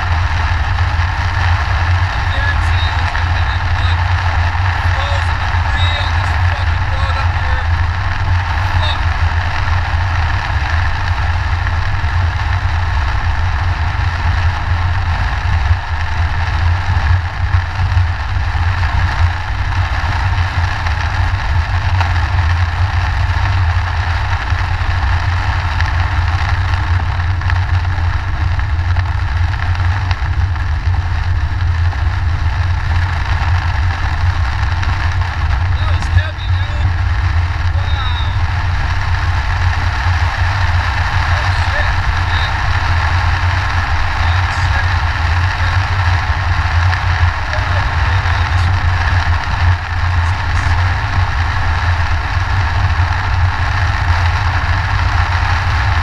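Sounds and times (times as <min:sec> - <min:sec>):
car engine and road rumble: 0:00.0 - 0:56.0
rain and tyre spray hiss: 0:00.0 - 0:56.0.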